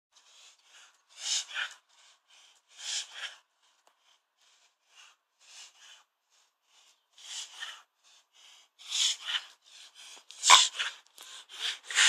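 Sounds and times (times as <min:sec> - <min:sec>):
dog rasping breaths: 0:00.2 - 0:12.0.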